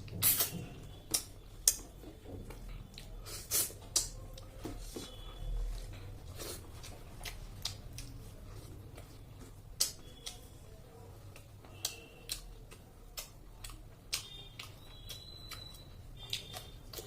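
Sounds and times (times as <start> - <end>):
chewing and smacking food: 0.0 - 17.0.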